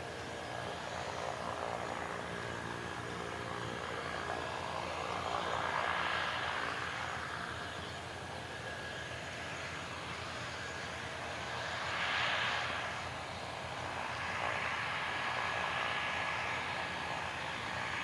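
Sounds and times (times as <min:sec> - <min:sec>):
propeller rushing noise: 0:00.0 - 0:18.0
turboprop engines whining: 0:00.0 - 0:18.0.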